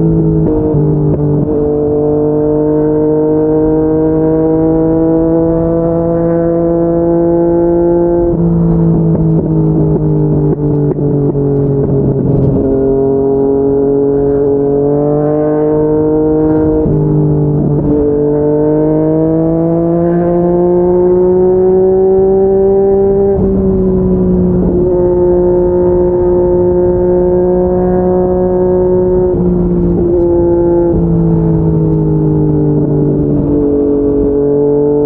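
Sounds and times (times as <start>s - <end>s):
motorcycle engine pulling under throttle: 0.0s - 35.0s.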